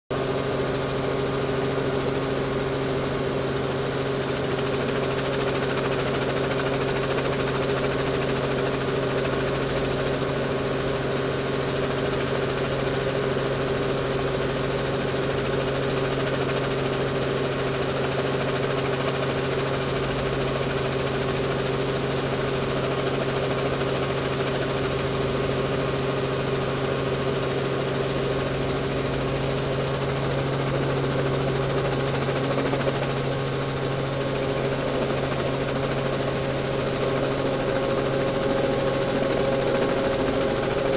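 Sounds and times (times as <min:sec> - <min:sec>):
helicopter engine and rotor drone: 0:00.1 - 0:40.9.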